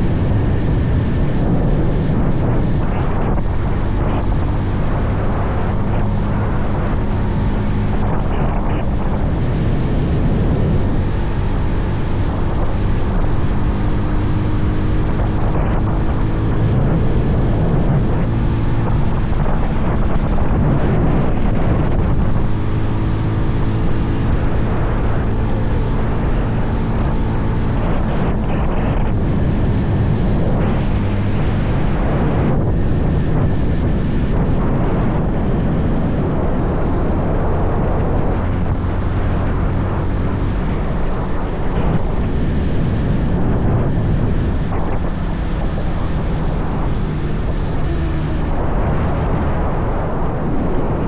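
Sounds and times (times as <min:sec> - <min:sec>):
motorcycle engine cruising: 0:00.0 - 0:51.0
wind on microphone: 0:00.0 - 0:51.0.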